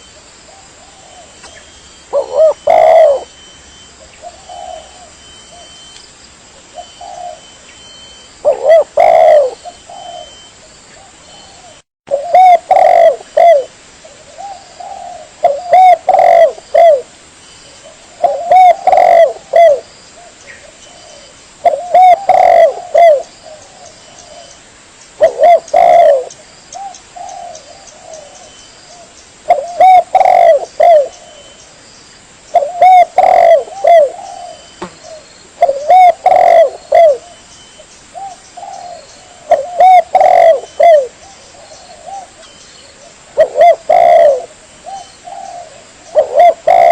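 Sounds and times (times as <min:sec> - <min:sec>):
dove cooing: 0:00.0 - 0:05.8, 0:06.7 - 0:17.1, 0:17.7 - 0:24.6, 0:25.2 - 0:31.6, 0:32.5 - 0:37.5, 0:38.1 - 0:46.9.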